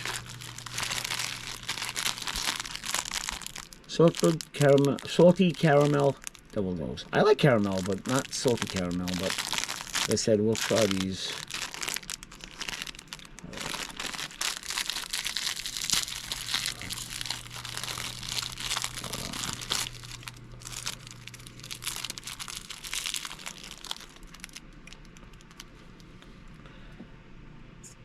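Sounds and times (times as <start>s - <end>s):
plastic wrapper crinkling and tearing: 0.0s - 26.1s.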